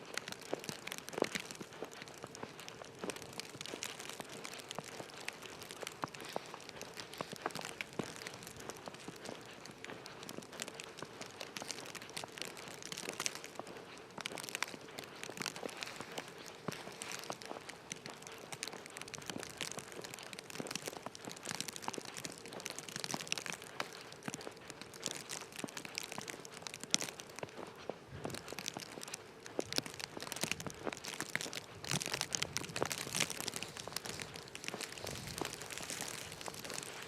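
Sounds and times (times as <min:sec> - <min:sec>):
footsteps crunching in snow: 0:00.0 - 0:37.0.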